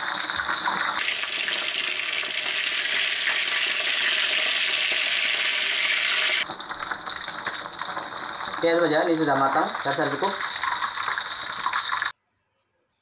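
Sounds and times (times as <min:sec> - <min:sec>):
hot oil sizzling: 0:00.0 - 0:12.1.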